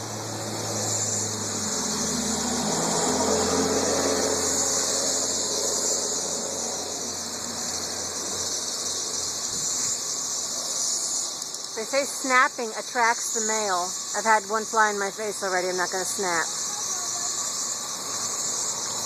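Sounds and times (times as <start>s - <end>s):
cicadas droning chorus: 0.0s - 19.0s.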